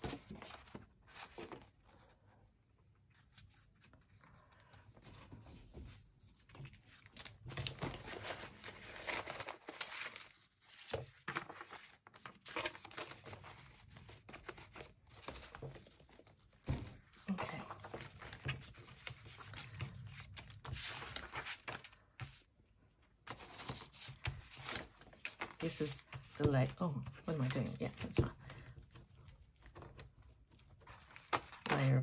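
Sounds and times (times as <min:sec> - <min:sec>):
paper rustling and crinkling: 0:00.0 - 0:22.5, 0:23.2 - 0:32.0.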